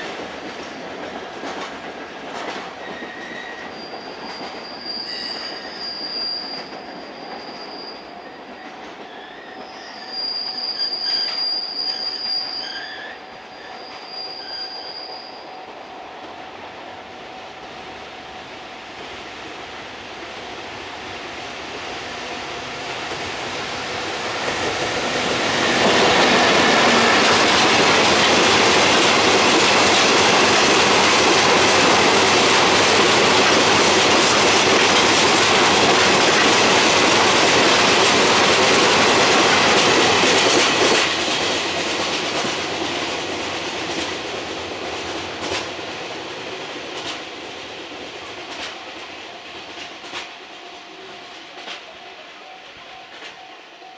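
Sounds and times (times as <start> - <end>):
freight train passing: 0.0 - 53.9.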